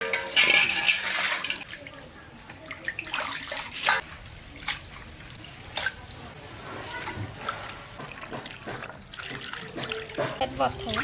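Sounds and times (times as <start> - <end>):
water splashing and pouring: 0.0 - 11.0.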